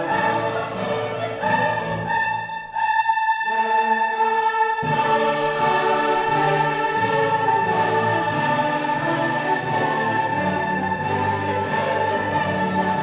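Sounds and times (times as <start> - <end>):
choir singing held notes: 0.0 - 13.0
orchestral music: 0.0 - 13.0.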